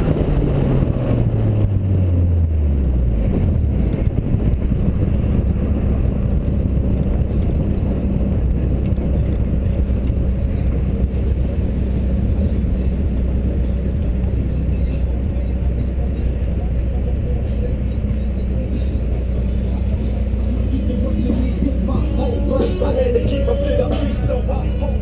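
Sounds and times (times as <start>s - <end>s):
car engine: 0.0s - 25.0s
wind and road noise: 0.0s - 25.0s.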